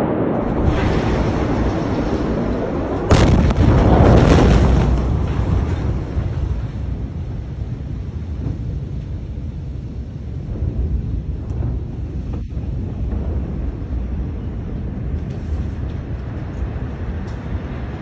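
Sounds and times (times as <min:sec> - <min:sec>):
explosion boom with rumble: 0:00.0 - 0:18.0
crackling: 0:00.3 - 0:18.0.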